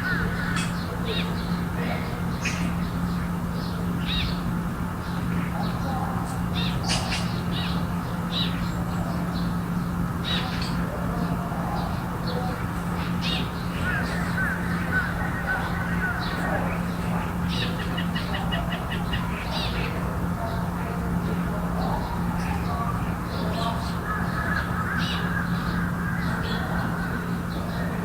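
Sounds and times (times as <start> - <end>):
garden birds calling: 0.0 - 28.0.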